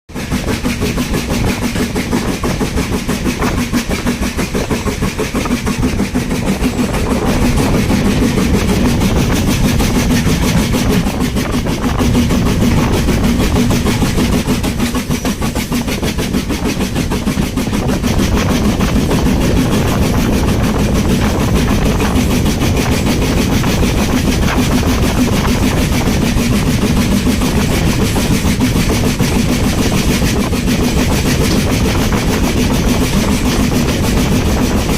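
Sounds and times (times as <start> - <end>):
steam locomotive exhaust beats: 0.1 - 34.9.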